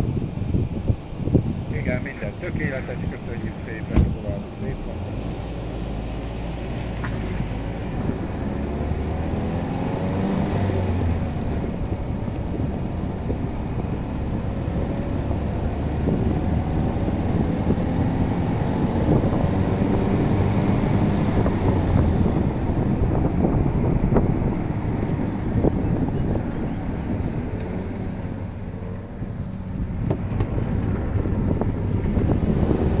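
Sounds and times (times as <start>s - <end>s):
car engine accelerating: 0.0s - 33.0s
wind noise: 0.0s - 33.0s.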